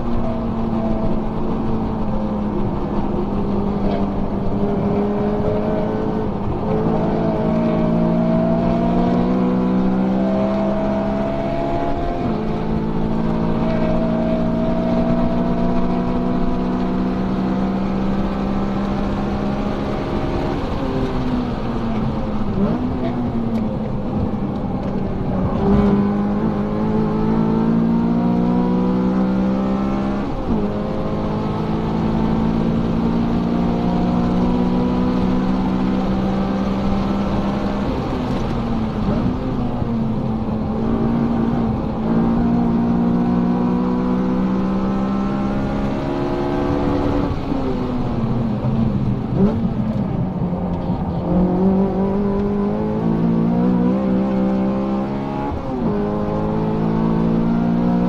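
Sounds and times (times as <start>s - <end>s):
car engine revving high: 0.0s - 58.0s.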